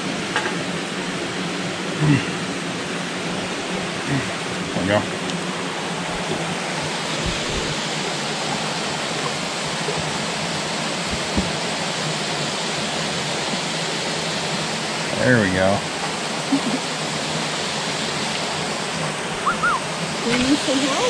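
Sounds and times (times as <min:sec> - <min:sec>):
waterfall rushing into pool: 0:00.0 - 0:21.0.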